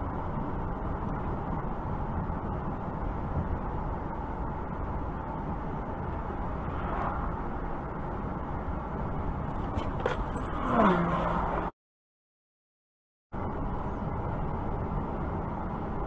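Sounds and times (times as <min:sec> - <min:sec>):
car road and engine noise: 0:00.0 - 0:11.8, 0:13.3 - 0:16.0.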